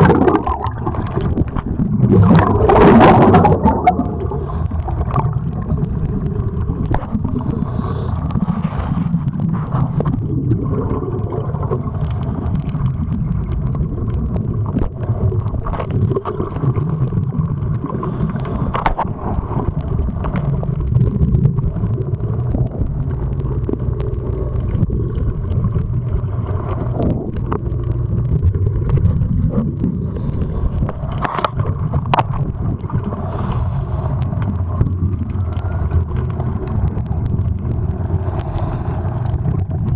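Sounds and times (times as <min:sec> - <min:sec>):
underwater low rumble: 0:00.0 - 0:39.9.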